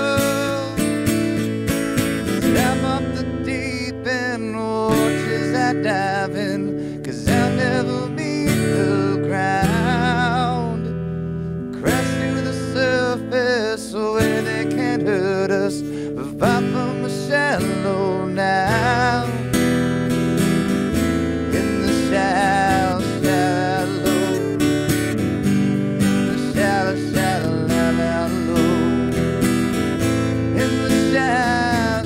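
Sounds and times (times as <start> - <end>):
man singing: 0.0 - 1.4, 2.2 - 11.0, 11.6 - 25.2, 25.8 - 32.0
strummed acoustic guitar: 0.0 - 32.0.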